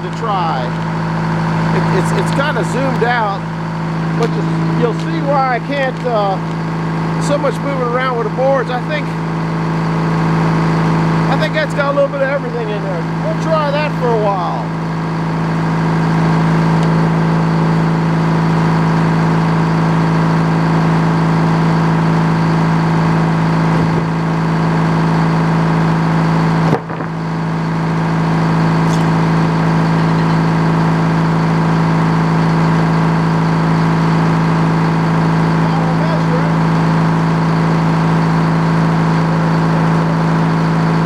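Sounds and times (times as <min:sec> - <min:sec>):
sawmill engine running: 0:00.0 - 0:41.0.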